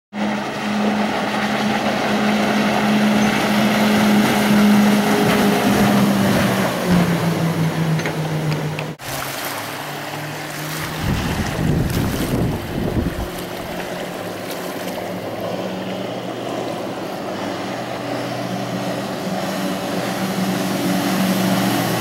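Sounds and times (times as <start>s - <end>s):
boat engine humming: 0.1s - 22.0s
wind: 0.1s - 22.0s
water rushing: 0.2s - 22.0s.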